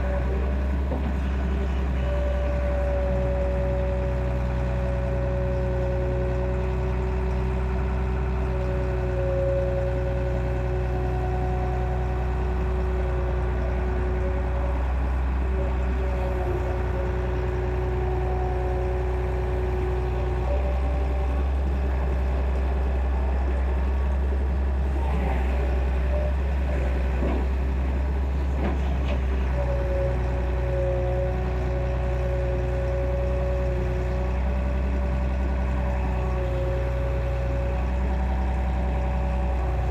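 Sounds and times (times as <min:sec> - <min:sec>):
diesel engine running: 0:00.0 - 0:39.9
steady whining tone: 0:00.0 - 0:39.9.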